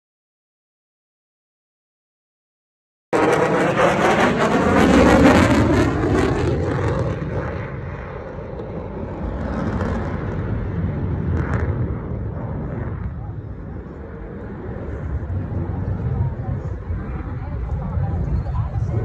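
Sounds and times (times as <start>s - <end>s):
jet engine roar passing: 3.2s - 19.0s.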